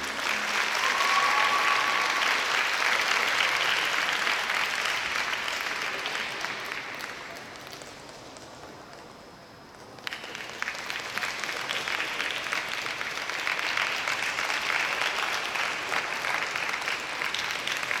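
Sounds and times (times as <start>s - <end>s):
audience applauding: 0.0s - 7.9s, 10.0s - 18.0s.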